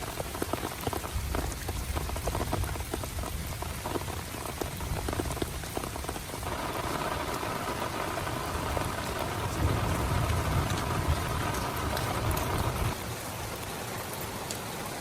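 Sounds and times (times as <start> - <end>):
rain hiss: 0.0 - 15.0
raindrops ticking on a surface: 0.0 - 15.0.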